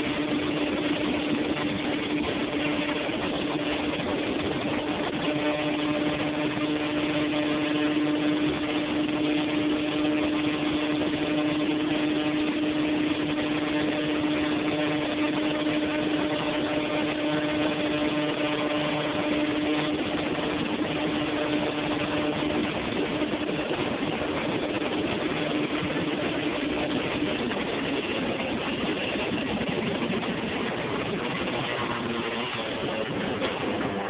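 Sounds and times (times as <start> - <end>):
two-stroke engine cruising: 0.0 - 34.0
wind and road noise: 0.0 - 34.0.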